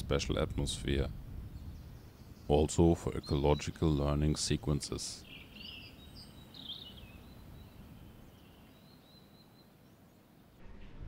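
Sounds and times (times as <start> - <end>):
small birds chirping: 0.0 - 10.6
low outdoor background noise: 0.0 - 11.0.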